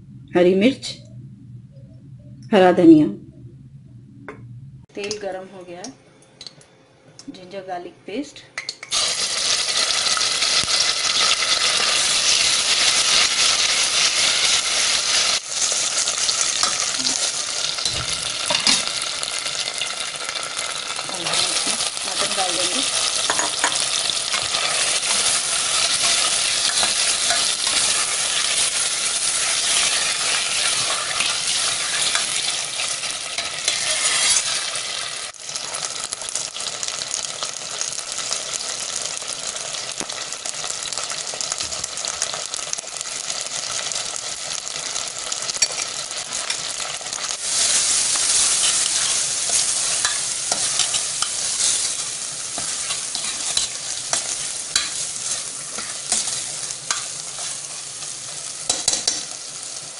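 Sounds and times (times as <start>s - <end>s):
meat sizzling in hot oil: 8.9s - 59.9s.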